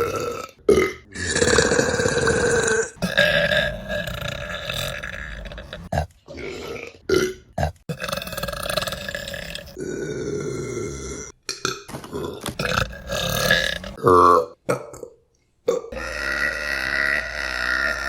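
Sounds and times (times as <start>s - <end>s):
woman burping: 0.0s - 9.8s, 12.6s - 18.0s.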